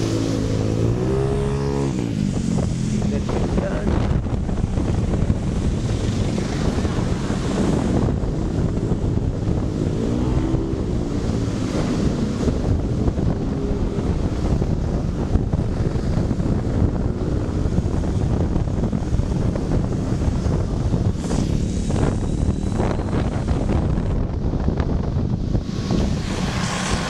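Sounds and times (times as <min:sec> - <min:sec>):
motorcycle engine: 0:00.0 - 0:27.0
wind buffeting microphone: 0:00.0 - 0:27.0.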